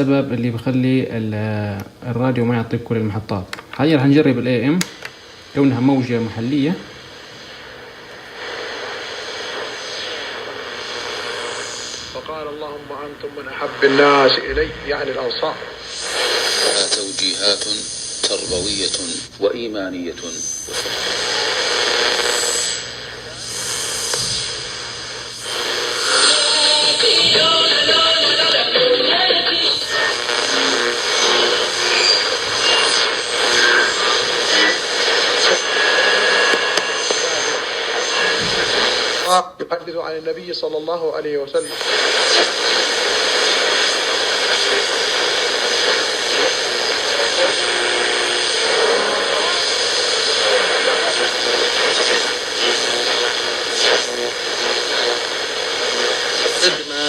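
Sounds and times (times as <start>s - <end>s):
radio static hiss: 0.0s - 57.0s
faint radio whistles: 8.3s - 39.4s, 41.5s - 57.0s.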